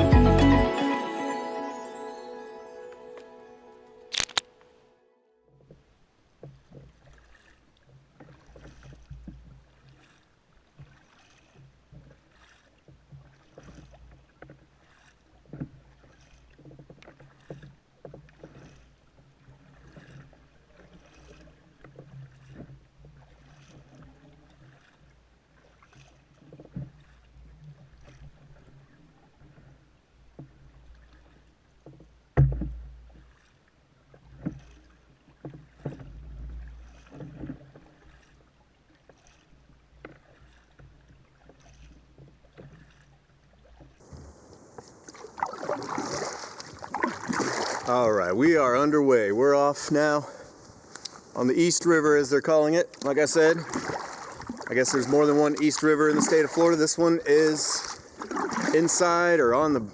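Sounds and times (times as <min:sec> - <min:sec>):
paddle knocking against kayak: 0:05.6 - 0:25.1, 0:25.9 - 0:49.0, 0:49.9 - 0:59.9
paddle strokes splashing in water: 0:05.6 - 0:59.9.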